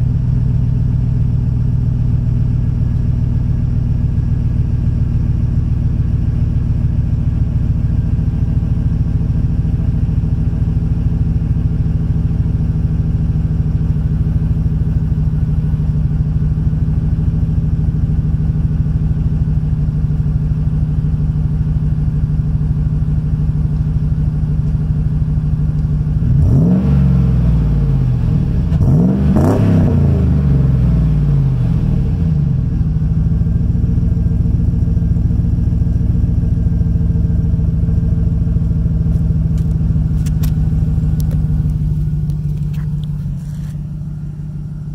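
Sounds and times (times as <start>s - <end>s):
truck engine idling and revving: 0.0s - 44.9s.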